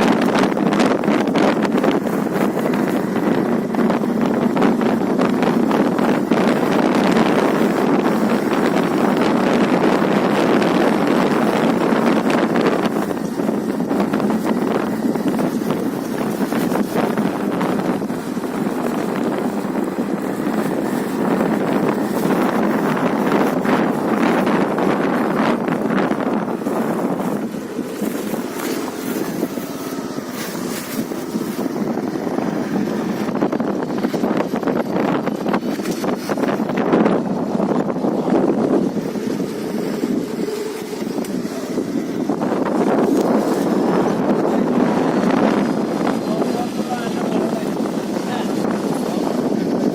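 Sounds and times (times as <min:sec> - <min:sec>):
motorbike engine and road noise: 0:00.0 - 0:49.9
wind rushing over microphone: 0:00.0 - 0:49.9.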